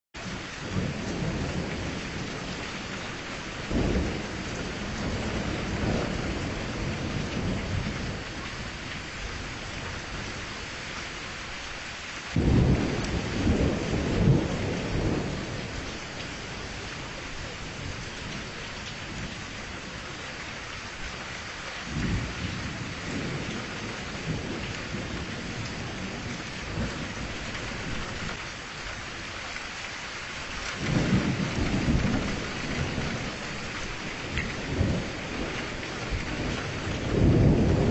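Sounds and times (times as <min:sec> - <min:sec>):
low rolls of thunder: 0:00.2 - 0:10.8, 0:12.3 - 0:20.4, 0:21.8 - 0:28.4, 0:30.7 - 0:37.9
steady rain: 0:00.2 - 0:37.9.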